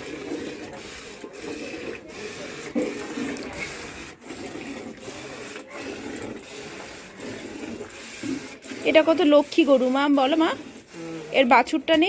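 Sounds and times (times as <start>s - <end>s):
milk squirting into a pail: 0.0s - 12.0s.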